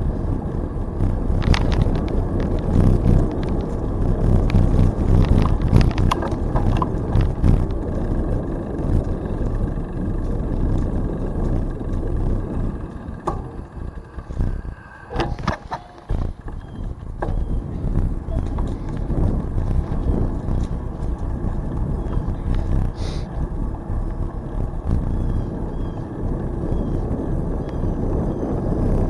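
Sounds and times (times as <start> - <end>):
bicycle rumble on trail: 0.0 - 29.0
wind buffeting: 0.0 - 29.0
small clicks and rattles: 0.1 - 27.0.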